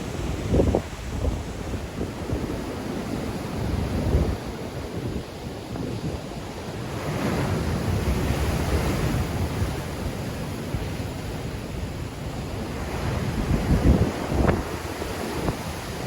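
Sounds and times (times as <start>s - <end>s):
wind buffeting microphone: 0.0s - 6.7s, 7.3s - 16.0s
waves breaking ashore: 0.0s - 16.0s.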